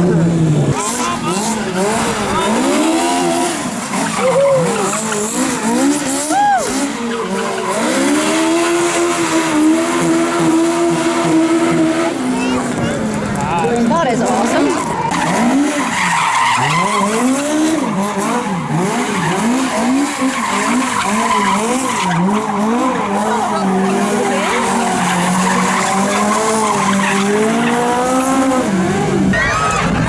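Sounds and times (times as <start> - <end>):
vehicle engine revving: 0.0 - 30.0.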